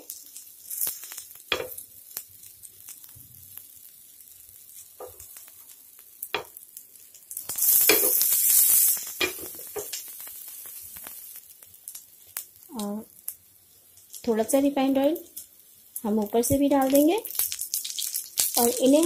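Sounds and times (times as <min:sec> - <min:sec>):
patties sizzling in oil: 0:00.0 - 0:19.0.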